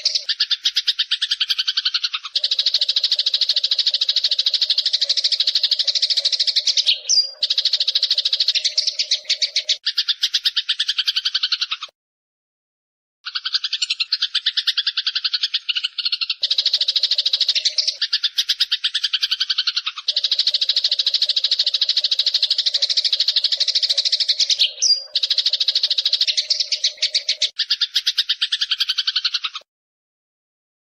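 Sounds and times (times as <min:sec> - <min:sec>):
sparrows chirping: 0:00.0 - 0:11.9, 0:13.3 - 0:29.6.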